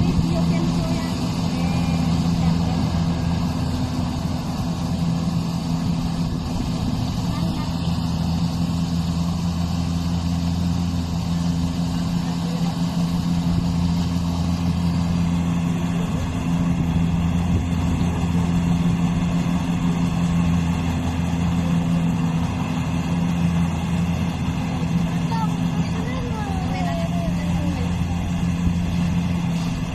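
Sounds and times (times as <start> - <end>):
engine humming steadily: 0.0 - 29.9.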